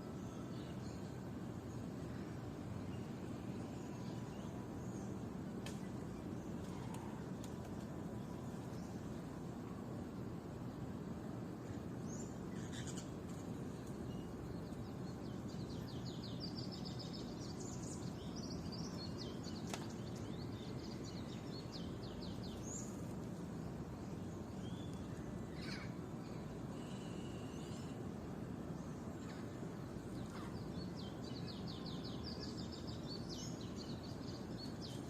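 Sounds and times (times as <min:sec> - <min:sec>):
low outdoor background hum: 0:00.0 - 0:35.0
songbirds chirping and trilling: 0:00.0 - 0:35.0.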